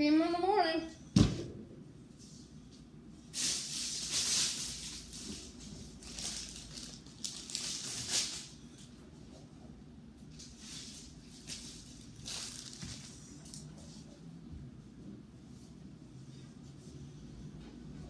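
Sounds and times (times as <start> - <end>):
rustling and shuffling: 2.0 - 18.0.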